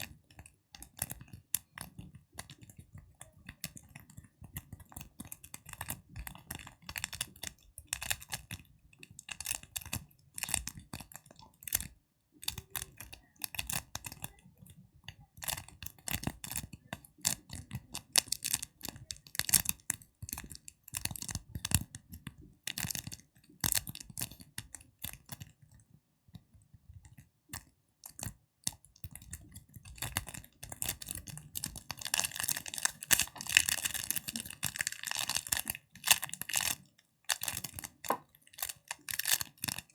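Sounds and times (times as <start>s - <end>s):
hand tapping and crackling: 0.0s - 39.9s.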